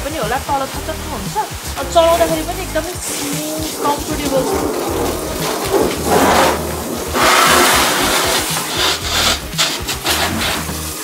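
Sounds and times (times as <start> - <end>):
music with bass beat: 0.0 - 11.0
water spraying from hose: 0.0 - 11.0.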